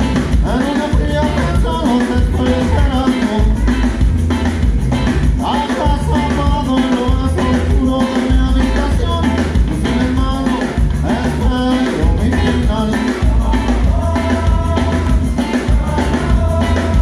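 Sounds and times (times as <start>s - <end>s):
bass: 0.0s - 17.0s
drum kit: 0.0s - 17.0s
live ska-rock band: 0.0s - 17.0s
person singing: 0.3s - 3.8s, 5.4s - 17.0s.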